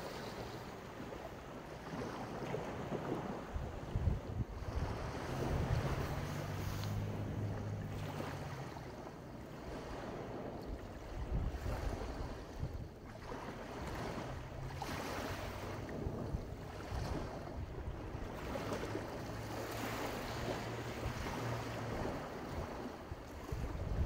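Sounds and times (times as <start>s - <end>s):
waves washing onto beach: 0.0s - 24.0s
wind buffeting microphone: 0.0s - 24.0s.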